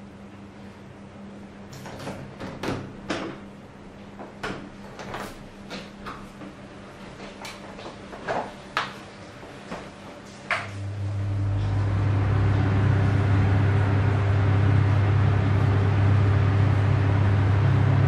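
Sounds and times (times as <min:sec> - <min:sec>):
exhaust fan humming: 0:00.0 - 0:18.0.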